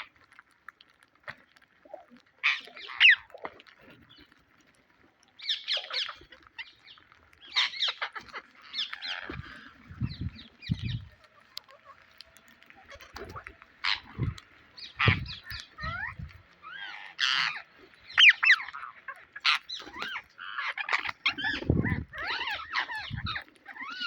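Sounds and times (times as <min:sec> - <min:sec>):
parakeets squawking: 0:02.4 - 0:03.4, 0:05.4 - 0:24.0.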